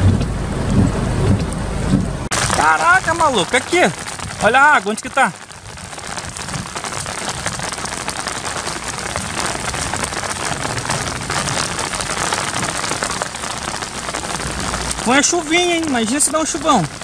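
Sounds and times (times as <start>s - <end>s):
raindrop hits: 0.0s - 17.0s
steady rain falling: 0.0s - 17.0s.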